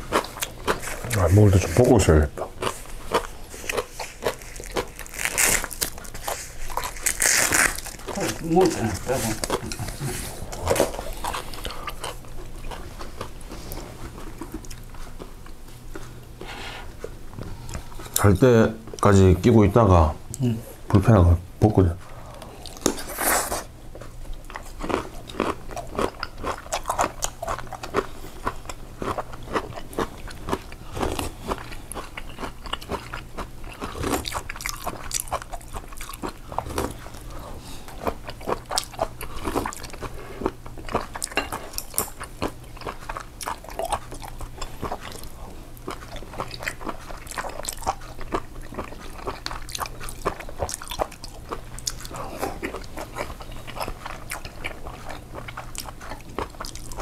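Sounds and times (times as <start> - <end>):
biting and chewing food: 0.0 - 16.4, 22.4 - 57.0
low steady hum: 0.0 - 57.0.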